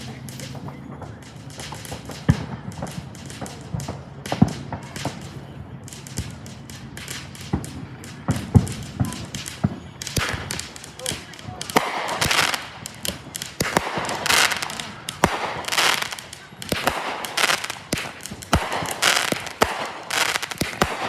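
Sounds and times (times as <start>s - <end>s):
fireworks booming: 0.0s - 21.0s
fireworks crackling and popping: 0.0s - 21.0s.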